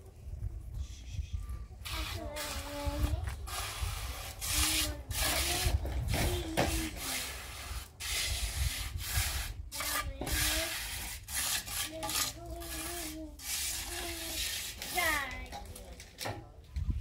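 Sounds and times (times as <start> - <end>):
rough scraping strokes: 1.8 - 16.0.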